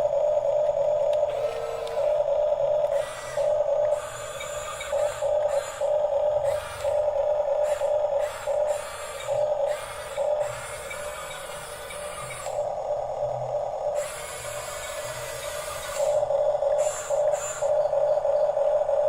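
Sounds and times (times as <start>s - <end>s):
small electric motors whining: 0.0s - 19.0s.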